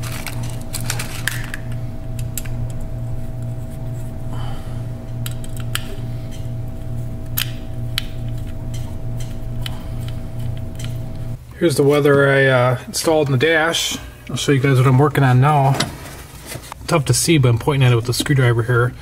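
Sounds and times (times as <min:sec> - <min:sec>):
steady pulsing hum: 0:00.0 - 0:19.0.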